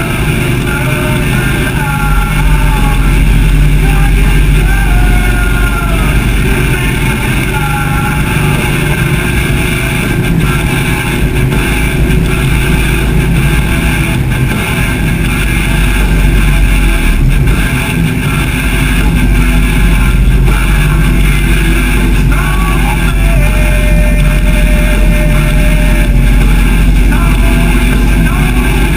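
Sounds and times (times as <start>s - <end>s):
motorcycle engine running: 0.0s - 28.9s
rushing noise: 0.0s - 28.9s.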